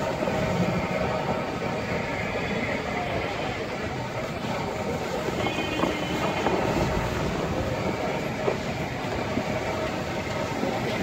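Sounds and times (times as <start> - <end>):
street traffic and engines: 0.0 - 11.0.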